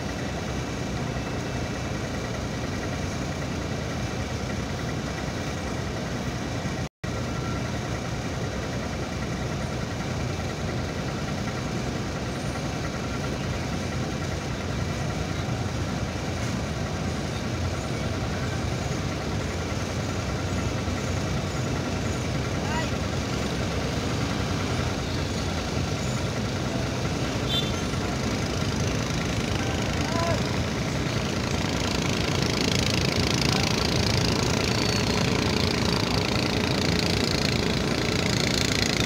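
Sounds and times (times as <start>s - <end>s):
ship diesel engine droning: 0.0s - 39.0s.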